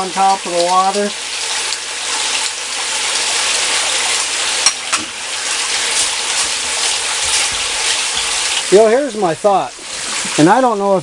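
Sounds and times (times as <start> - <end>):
water rushing through sluice: 0.0 - 11.0.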